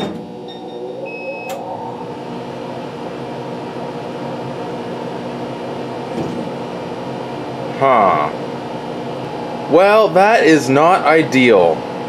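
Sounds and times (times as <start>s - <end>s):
laser cutter humming: 0.0s - 12.0s.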